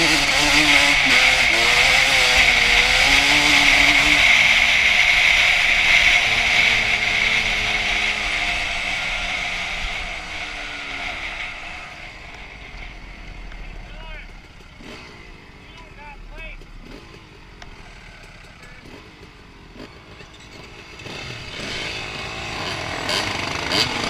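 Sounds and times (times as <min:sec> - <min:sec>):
two-stroke dirt bike engine: 0:00.0 - 0:24.0.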